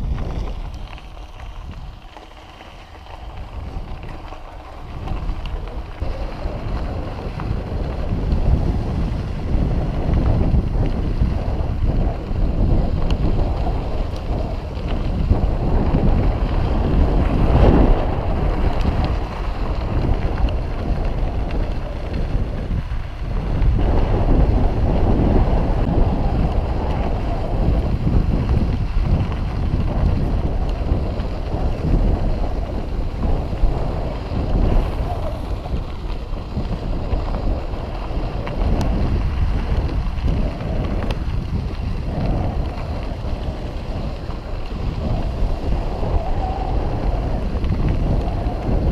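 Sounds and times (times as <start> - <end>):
bike tyres rolling on dirt: 0.0 - 48.9
wind buffeting microphone: 0.0 - 48.9.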